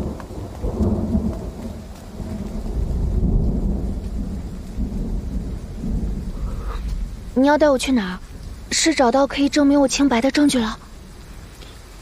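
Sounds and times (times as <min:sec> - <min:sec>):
low rolling thunder: 0:00.0 - 0:11.5
steady rain: 0:00.0 - 0:12.0.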